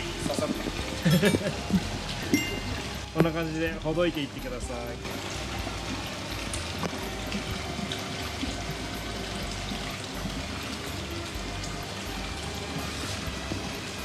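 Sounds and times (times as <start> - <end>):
water trickling and pouring: 0.0 - 14.0.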